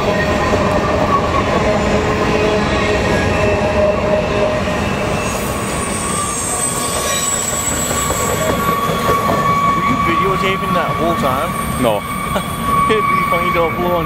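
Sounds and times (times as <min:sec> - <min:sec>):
train wheels rumbling on rails: 0:00.0 - 0:14.0
wheel flange squeal: 0:00.0 - 0:14.0.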